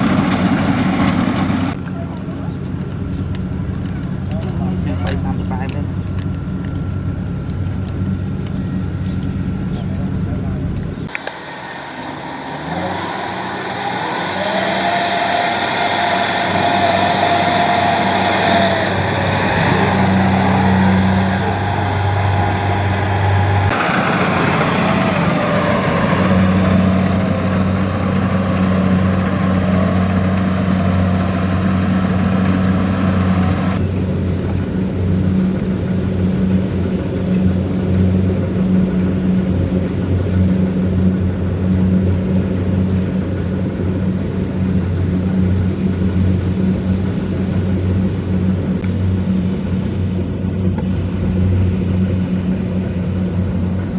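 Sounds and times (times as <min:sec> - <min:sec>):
combine harvester diesel engine hum: 0:00.0 - 0:53.9
wavering machine whine: 0:02.5 - 0:53.9.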